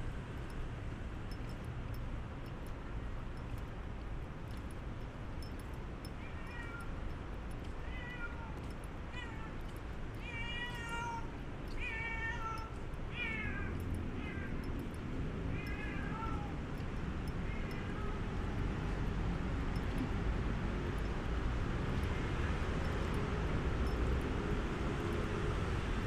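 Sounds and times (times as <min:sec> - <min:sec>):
street background noise: 0:00.0 - 0:26.0.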